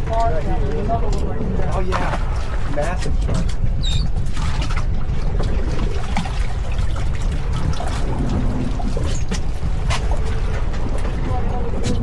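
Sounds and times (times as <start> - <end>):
steady low rumble: 0.0 - 12.0
water lapping against boat hull: 0.0 - 12.0.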